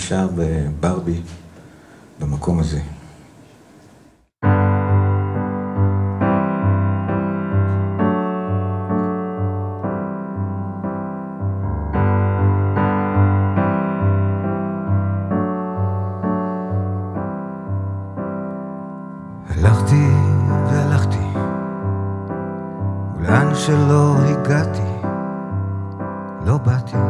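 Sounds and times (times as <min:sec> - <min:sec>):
piano chords: 0:04.4 - 0:27.0.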